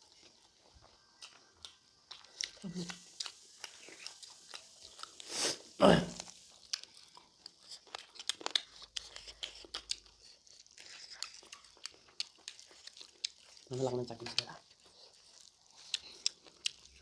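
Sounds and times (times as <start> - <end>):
wet chewing: 0.1 - 17.0.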